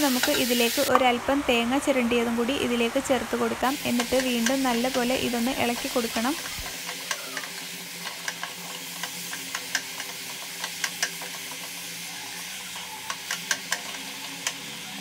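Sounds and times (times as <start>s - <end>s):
food sizzling in a pot: 0.0s - 1.0s, 3.3s - 15.0s.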